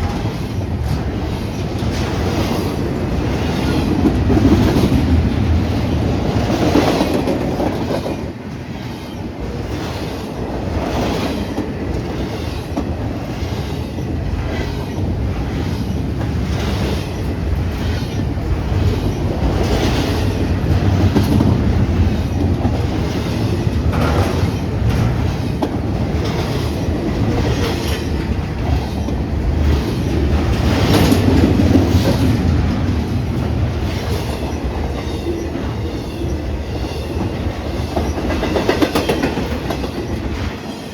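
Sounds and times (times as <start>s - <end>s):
train rumbling: 0.0s - 40.9s
train wheels clacking over rail joints: 0.0s - 40.9s.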